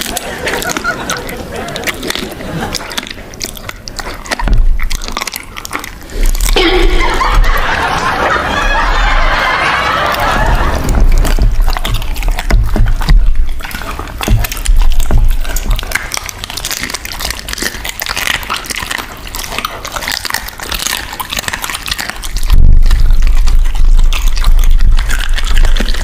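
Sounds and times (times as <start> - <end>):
dogs licking and chewing: 0.0 - 26.0.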